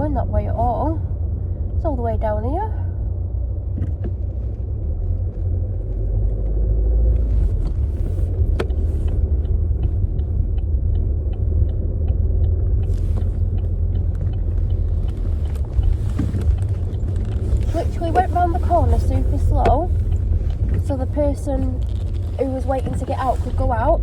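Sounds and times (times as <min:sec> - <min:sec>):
car cabin rumble: 0:00.0 - 0:24.0
turn signal ticking: 0:00.0 - 0:24.0.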